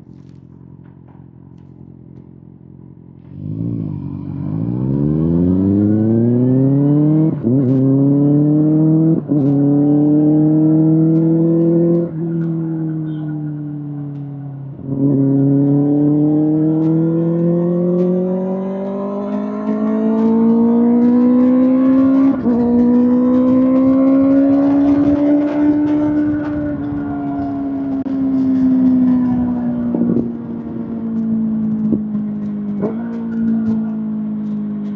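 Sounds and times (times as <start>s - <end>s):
motorcycle accelerating through gears: 2.8s - 34.9s.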